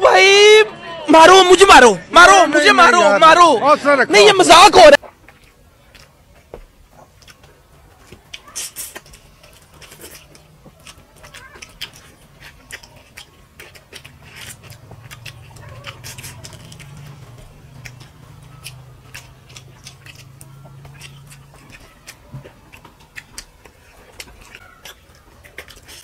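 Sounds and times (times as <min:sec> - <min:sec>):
wet chewing and lip-smacking: 0:05.0 - 0:26.0.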